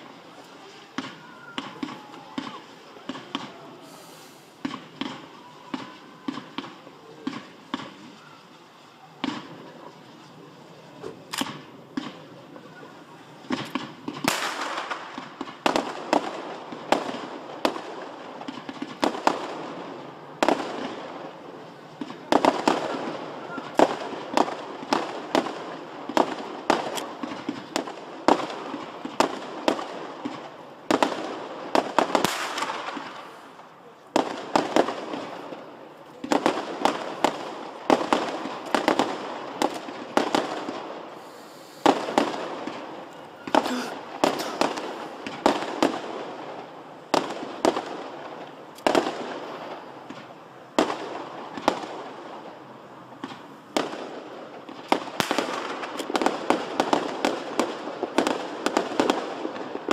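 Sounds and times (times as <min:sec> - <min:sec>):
fireworks bangs: 0:00.0 - 0:59.9
fireworks crackle and hiss: 0:00.0 - 0:59.9.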